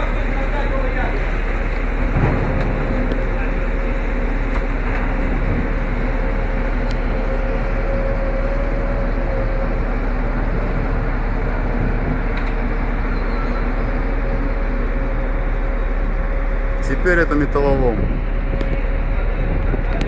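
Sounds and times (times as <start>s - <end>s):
ship machinery rumbling: 0.0s - 20.0s.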